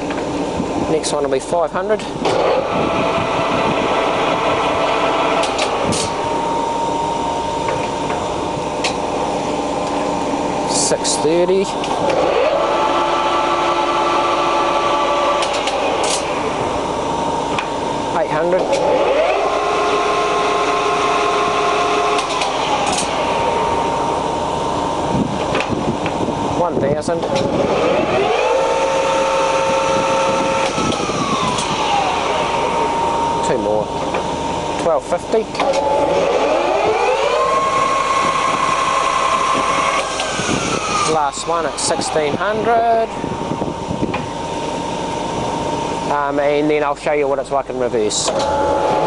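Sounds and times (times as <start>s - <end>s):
lathe gear-train running: 0.0s - 49.0s
lathe whine: 0.0s - 49.0s.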